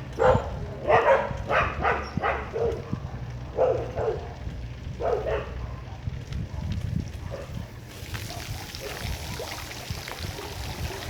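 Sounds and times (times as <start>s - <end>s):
dogs barking: 0.0s - 9.1s, 10.2s - 11.0s.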